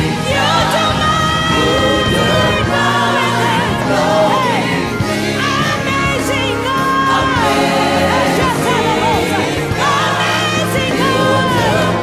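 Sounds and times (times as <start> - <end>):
gospel choir singing: 0.0 - 12.0
live band: 0.0 - 12.0.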